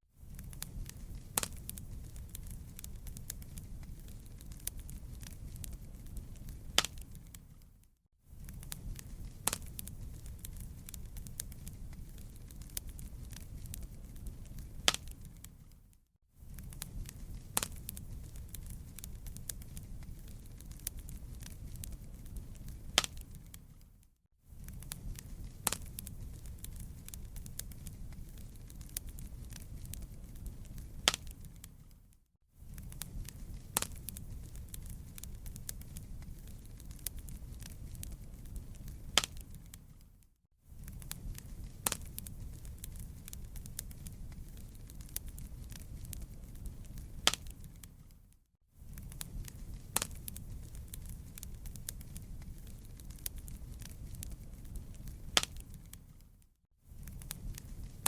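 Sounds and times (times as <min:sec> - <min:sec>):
wood fire crackling and popping: 0:00.2 - 0:58.0.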